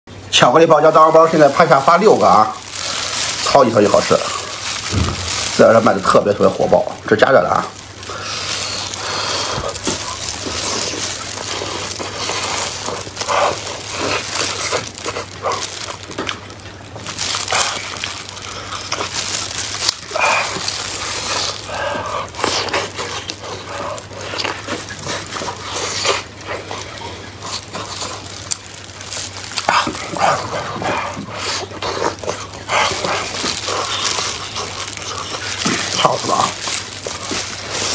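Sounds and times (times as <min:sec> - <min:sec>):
person chewing: 0:00.9 - 0:37.9.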